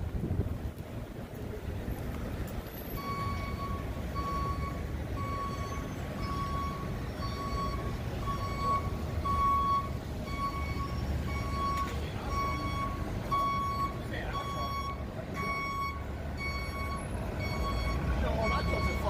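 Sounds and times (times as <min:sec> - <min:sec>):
reversing alarm beeping: 0:02.8 - 0:19.0.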